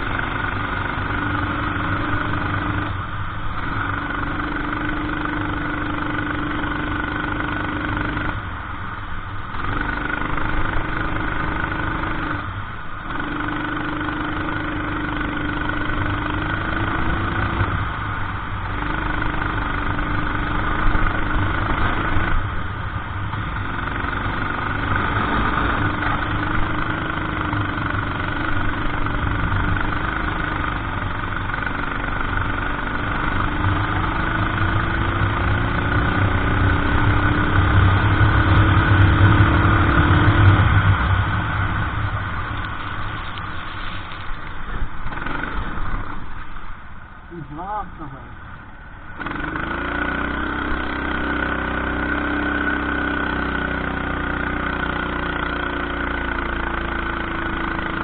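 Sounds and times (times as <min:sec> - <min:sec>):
kart engine running hard: 0:00.0 - 0:46.7, 0:47.4 - 0:58.0.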